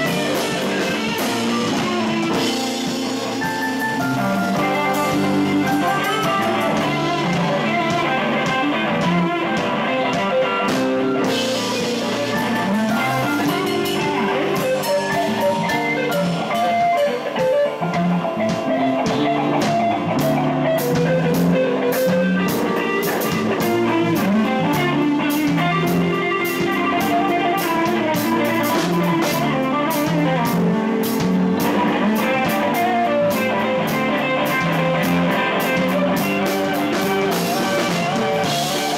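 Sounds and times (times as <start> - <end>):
drum kit: 0.0 - 38.9
electric guitar: 0.0 - 38.9.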